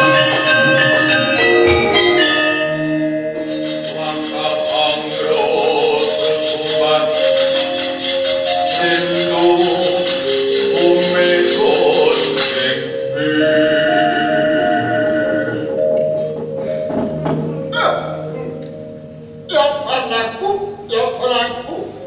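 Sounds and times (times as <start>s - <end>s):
gamelan music: 0.0s - 22.0s.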